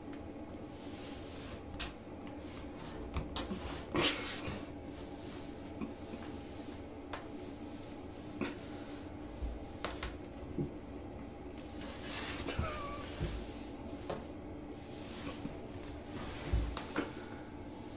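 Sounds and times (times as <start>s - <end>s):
faint steady hum: 0.0s - 17.9s
rug scraping on tile floor: 0.6s - 10.8s, 11.5s - 17.9s.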